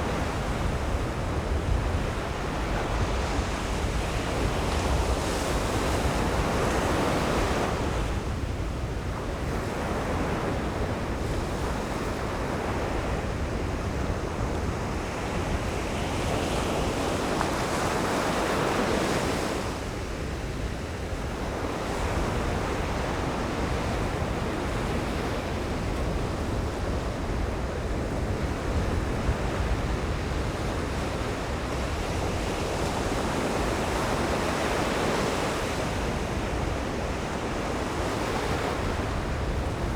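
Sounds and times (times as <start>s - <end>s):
ocean surf breaking on a beach: 0.0s - 39.9s
wind buffeting microphone: 0.0s - 39.9s.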